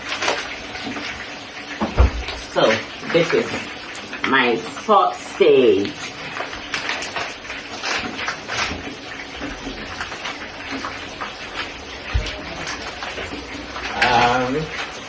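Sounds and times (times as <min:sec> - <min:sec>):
oil popping: 0:00.0 - 0:04.3, 0:05.8 - 0:15.0
food sizzling in hot oil: 0:00.0 - 0:15.0.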